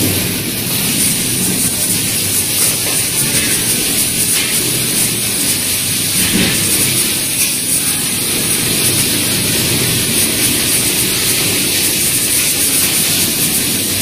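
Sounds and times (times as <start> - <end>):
sewing machine rattling: 0.0 - 14.0.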